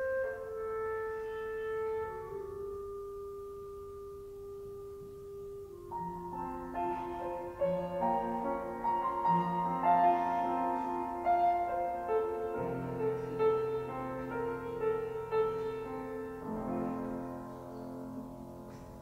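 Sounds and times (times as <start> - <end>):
clarinet playing hymn melody: 0.0 - 19.0
piano accompaniment: 0.0 - 19.0.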